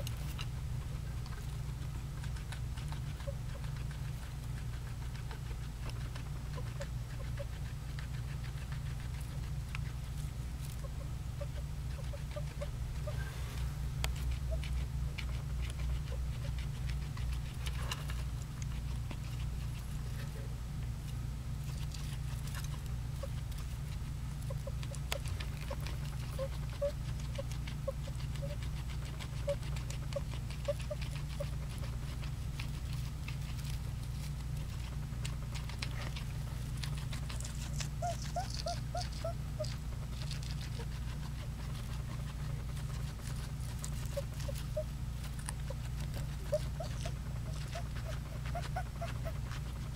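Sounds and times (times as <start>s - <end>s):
guinea pig crunching food: 0.0s - 49.9s
guinea pig wheezing peeps: 0.0s - 49.9s.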